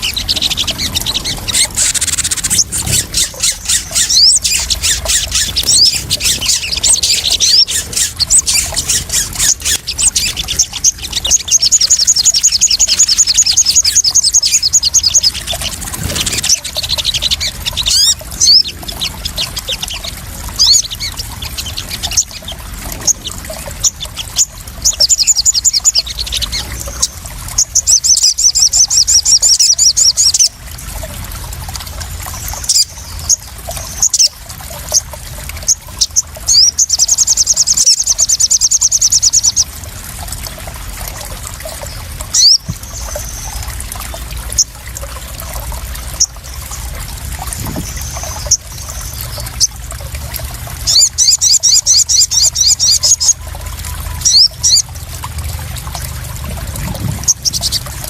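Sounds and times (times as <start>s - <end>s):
sunbirds chirping and trilling: 0.0s - 30.6s, 32.3s - 39.8s, 41.6s - 45.1s, 45.8s - 50.0s, 50.8s - 58.0s
water splashing: 0.0s - 58.0s.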